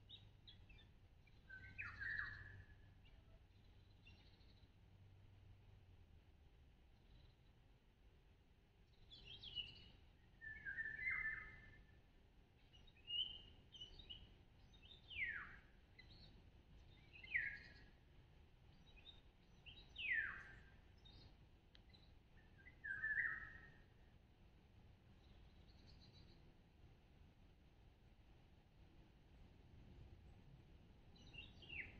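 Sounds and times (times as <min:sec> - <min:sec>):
songbirds singing: 0:00.0 - 0:05.8, 0:06.7 - 0:07.9, 0:08.8 - 0:27.4, 0:28.1 - 0:31.9.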